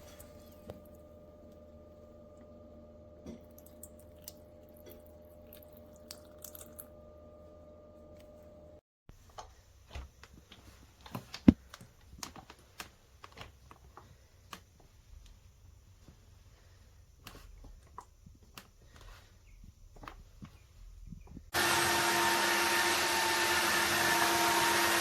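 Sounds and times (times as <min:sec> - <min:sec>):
faint steady hum: 0:00.0 - 0:21.5.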